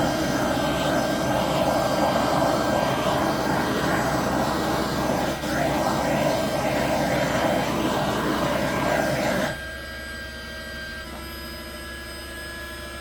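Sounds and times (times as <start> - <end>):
hot-air blower whining: 0.0 - 13.0.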